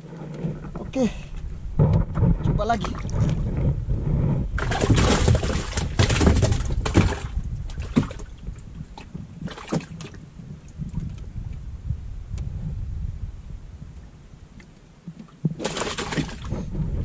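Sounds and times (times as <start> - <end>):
water sloshing around boat: 0.0 - 11.6, 14.5 - 17.0
low rumble: 0.0 - 14.6, 16.4 - 17.0
wind on microphone: 0.0 - 17.0.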